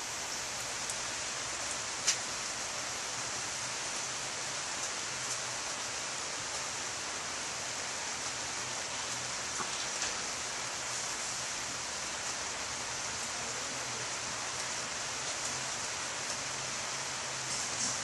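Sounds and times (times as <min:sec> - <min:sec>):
raindrops ticking close by: 0:00.0 - 0:18.0
steady rain falling: 0:00.0 - 0:18.0.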